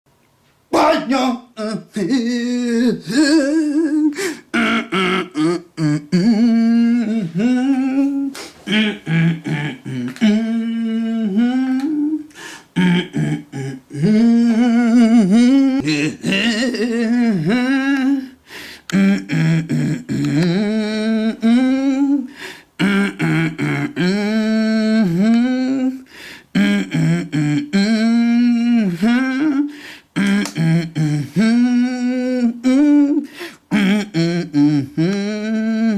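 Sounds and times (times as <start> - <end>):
person humming a slow tune: 1.6 - 35.9.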